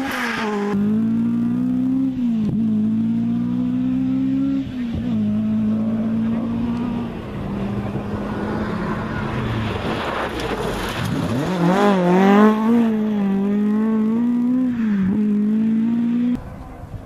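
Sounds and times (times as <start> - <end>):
rally car engine revving: 0.0 - 16.4.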